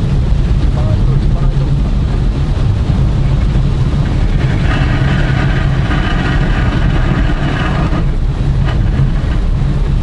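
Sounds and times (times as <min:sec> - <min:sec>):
engine and road rumble: 0:00.0 - 0:10.0
heavy rain: 0:00.0 - 0:10.0.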